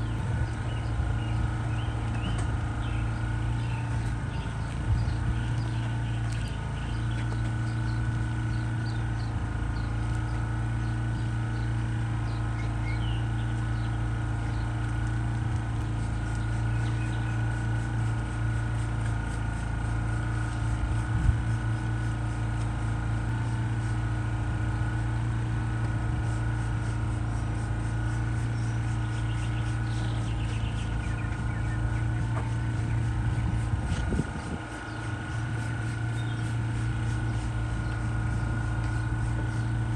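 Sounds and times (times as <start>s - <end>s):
small engine humming: 0.0s - 39.9s.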